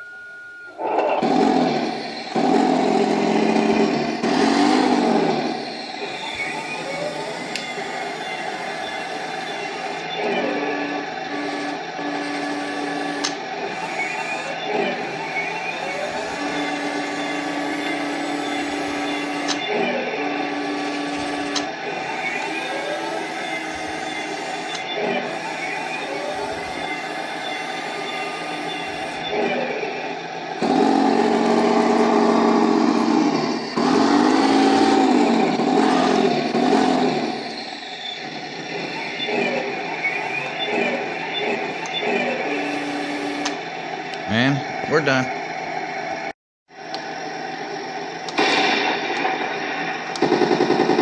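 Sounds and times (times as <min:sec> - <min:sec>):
steady hum: 0:00.0 - 0:50.9
simulated engine sound from speaker: 0:00.8 - 0:43.6, 0:44.2 - 0:45.4
electric gear motors whirring: 0:00.8 - 0:44.5.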